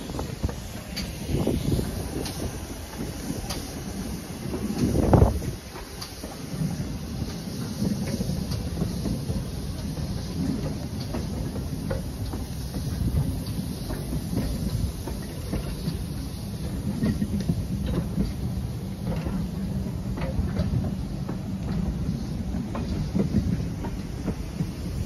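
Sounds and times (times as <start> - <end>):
train wheels rumbling on rails: 0.0 - 25.0
wheels clicking over rail joints: 0.0 - 25.0.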